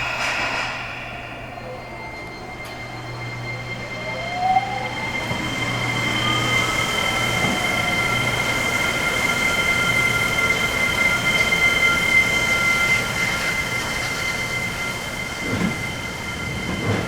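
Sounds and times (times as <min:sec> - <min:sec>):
train inverter whining: 0:00.0 - 0:17.0.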